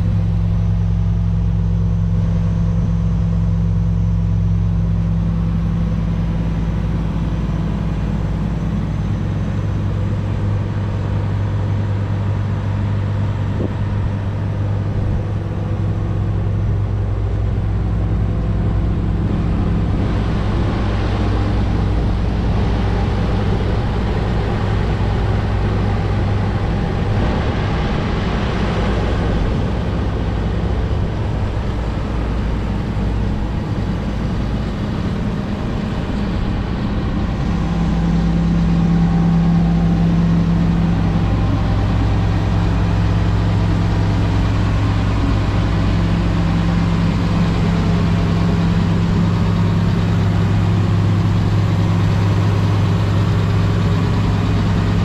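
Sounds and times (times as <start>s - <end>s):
excavator engine idling: 0.0s - 55.0s
broad rushing noise: 4.0s - 55.0s.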